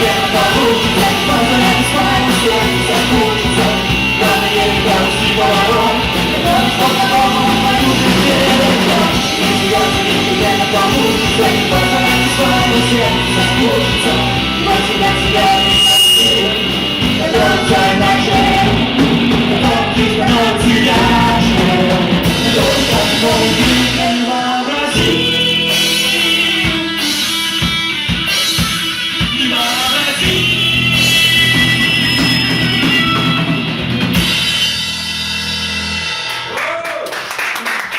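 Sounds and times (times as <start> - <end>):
live rock band playing: 0.0 - 36.7.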